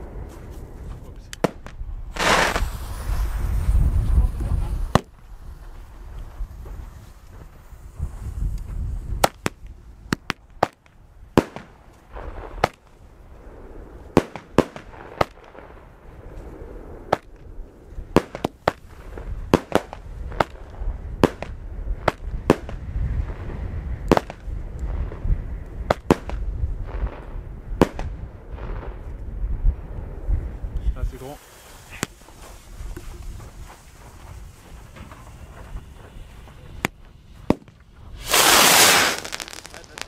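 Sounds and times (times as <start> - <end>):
fireworks banging: 0.0 - 29.2, 30.9 - 40.0.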